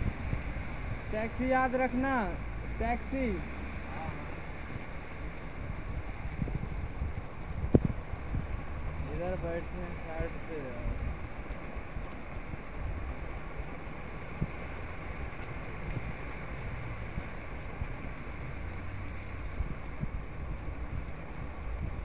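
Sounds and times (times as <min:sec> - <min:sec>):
wind buffeting microphone: 0:00.0 - 0:01.4, 0:04.0 - 0:22.0
heavy rain falling: 0:00.0 - 0:22.0.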